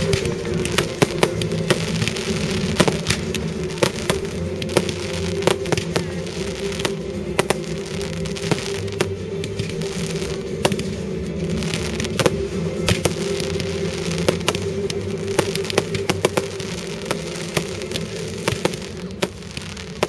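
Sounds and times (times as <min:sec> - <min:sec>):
fireworks bursting and crackling: 0:00.0 - 0:20.0
music with held low notes: 0:00.0 - 0:20.0.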